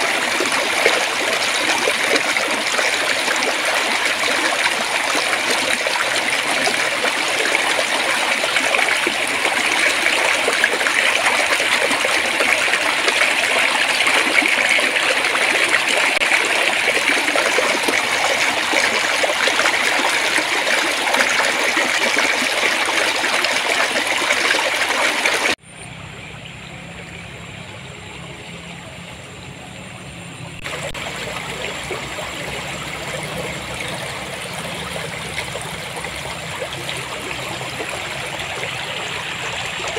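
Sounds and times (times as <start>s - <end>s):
stream babbling over stones: 0.0s - 25.6s, 30.6s - 39.9s.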